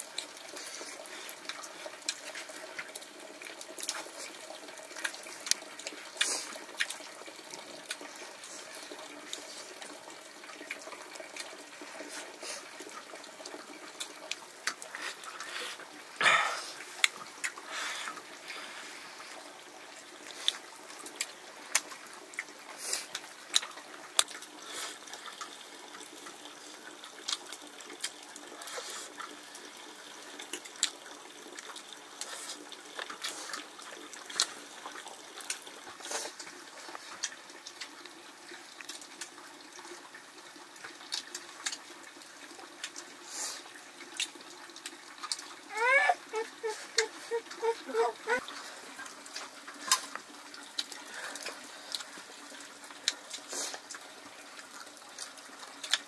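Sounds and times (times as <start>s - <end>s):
water running: 0.0s - 56.0s.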